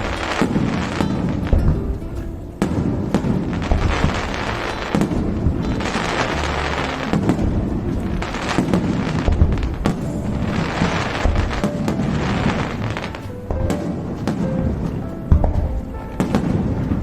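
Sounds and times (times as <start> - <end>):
fireworks booming: 0.0 - 17.0
fireworks crackling and hissing: 0.0 - 17.0.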